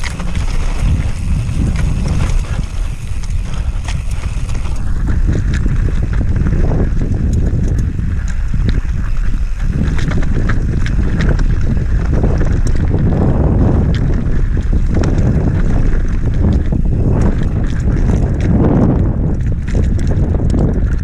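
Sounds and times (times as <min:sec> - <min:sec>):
bike clicks and rattles: 0:00.0 - 0:21.0
bike tyres rolling on dirt: 0:00.0 - 0:21.0
wind buffeting microphone: 0:00.0 - 0:21.0.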